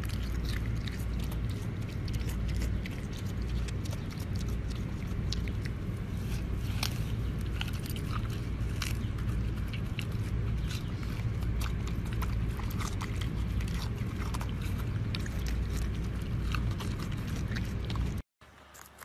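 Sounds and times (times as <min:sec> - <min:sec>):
steady low rumble: 0:00.0 - 0:18.2
pig chewing watermelon: 0:00.0 - 0:19.0.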